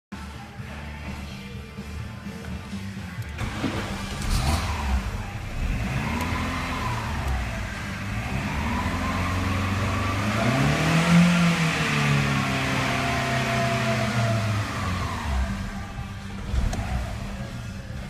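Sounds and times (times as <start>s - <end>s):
car engine revving: 3.2s - 18.0s.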